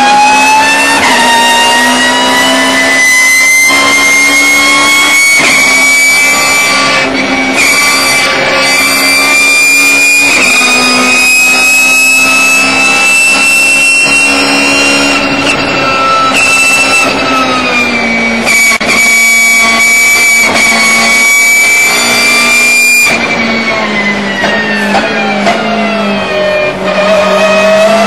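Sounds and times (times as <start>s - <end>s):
race car engine at high revs: 0.0s - 28.0s.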